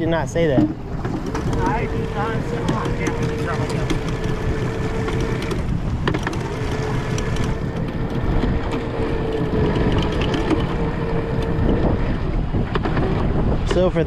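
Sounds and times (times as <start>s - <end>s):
boat motor running: 0.0s - 14.0s
thin steady whine: 0.0s - 14.0s
wind rumbling on microphone: 0.0s - 14.0s.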